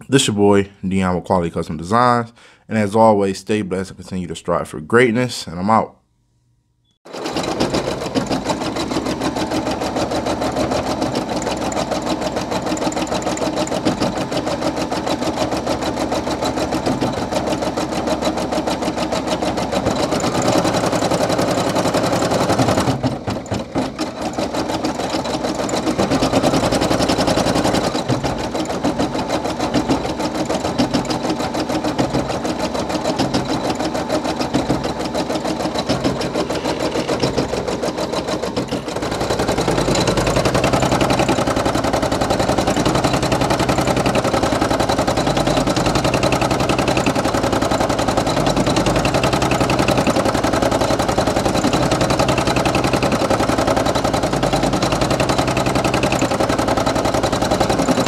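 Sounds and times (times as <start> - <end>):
embroidery machine stitching: 7.1 - 58.0.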